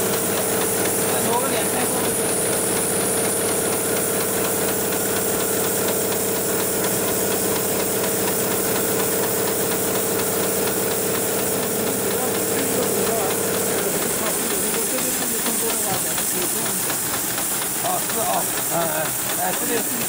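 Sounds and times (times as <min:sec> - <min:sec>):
sewing machine running: 0:00.0 - 0:20.0.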